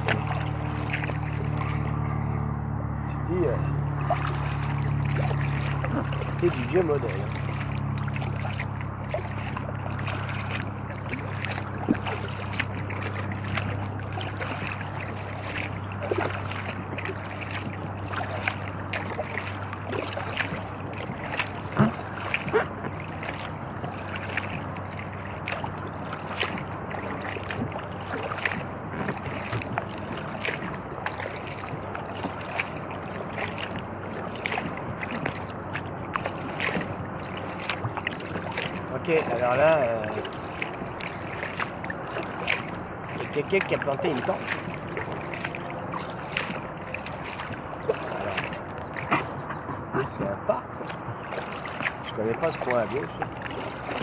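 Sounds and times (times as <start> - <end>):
floatplane piston engine drone: 0.0 - 54.0
paddle splashes: 0.0 - 54.0.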